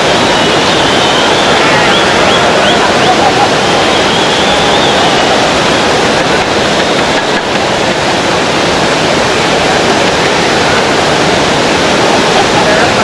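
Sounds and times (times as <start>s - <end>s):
whitewater rushing over rocks: 0.0s - 13.0s.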